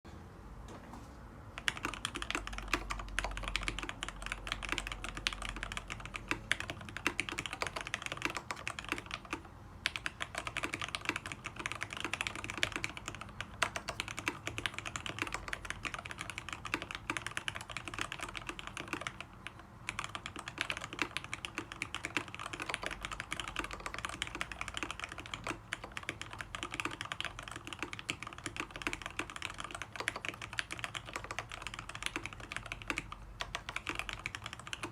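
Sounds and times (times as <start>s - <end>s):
typing on mechanical keyboard: 1.6s - 34.9s.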